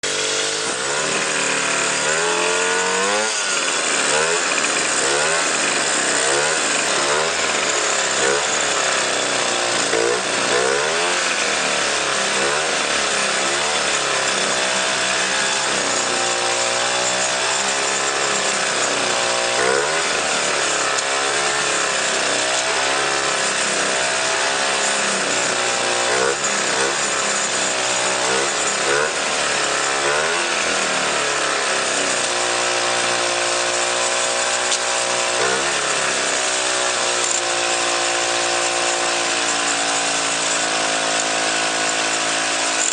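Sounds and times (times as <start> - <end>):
moped engine revving unevenly: 0.0 - 42.9.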